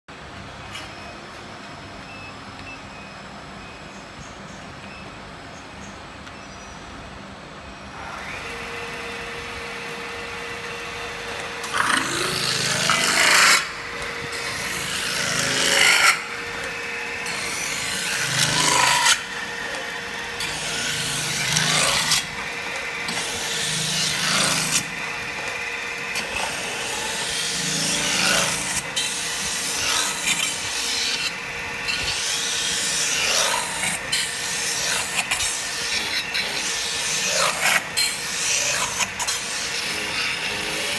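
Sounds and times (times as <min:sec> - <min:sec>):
steady motor whine: 0:06.1 - 0:40.9.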